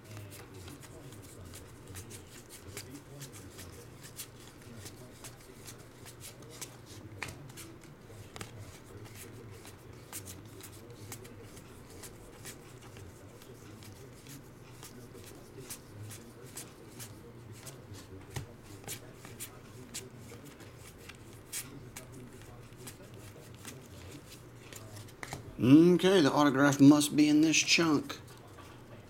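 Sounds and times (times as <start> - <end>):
trading cards flipped by hand: 0.1 - 25.5.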